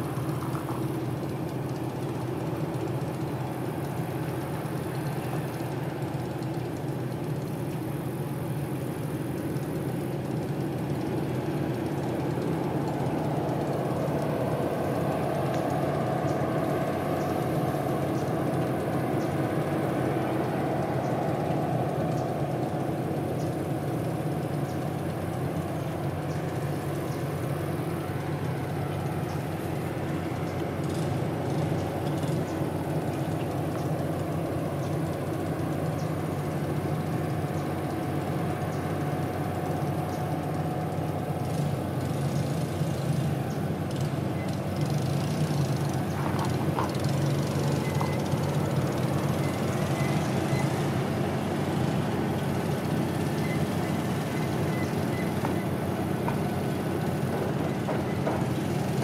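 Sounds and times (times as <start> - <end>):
diesel engine hum: 0.0 - 59.0.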